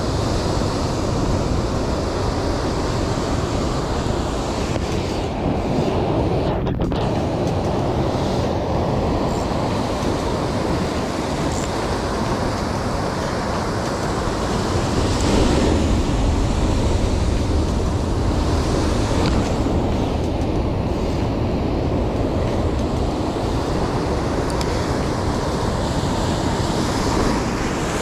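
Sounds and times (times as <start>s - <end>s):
ocean surf breaking on rocks: 0.0s - 28.0s.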